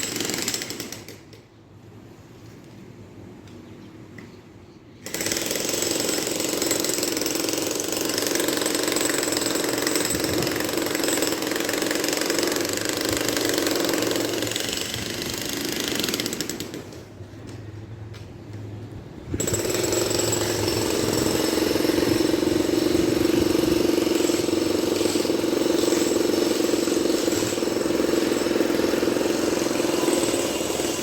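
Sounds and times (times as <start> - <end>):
jackhammer hammering: 0.0 - 1.3, 5.0 - 17.0, 19.4 - 31.0.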